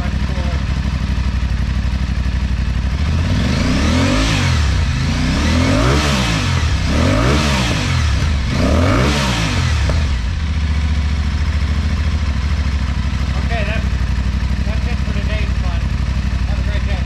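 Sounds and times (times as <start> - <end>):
motorcycle engine idling: 0.0 - 17.0
motorcycle engine revving: 0.0 - 17.0.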